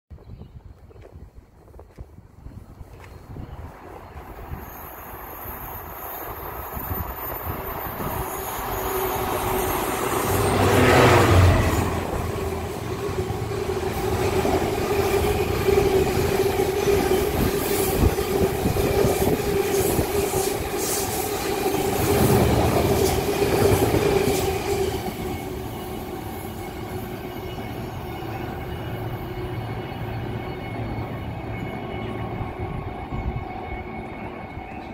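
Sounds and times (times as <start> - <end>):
diesel locomotive passing: 2.8 - 34.9.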